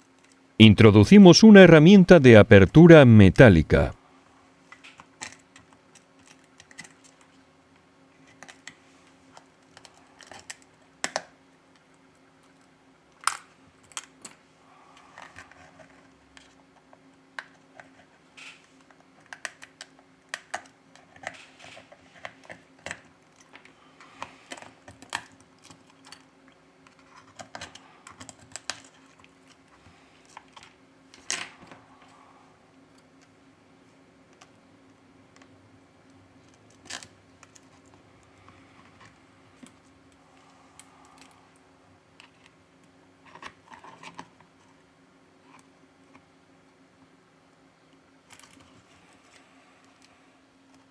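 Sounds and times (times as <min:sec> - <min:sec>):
faint steady hum: 0:00.0 - 0:50.9.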